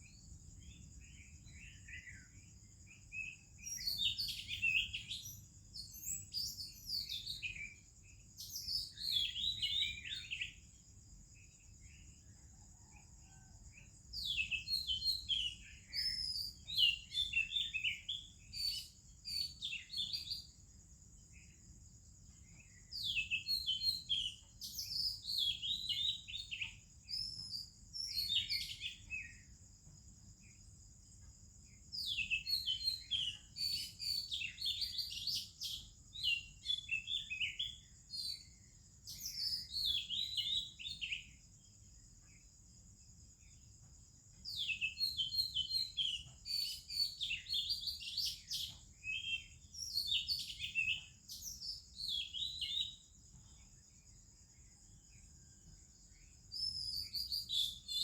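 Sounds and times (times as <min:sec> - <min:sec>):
steady high-pitched hiss: 0:00.0 - 0:58.0.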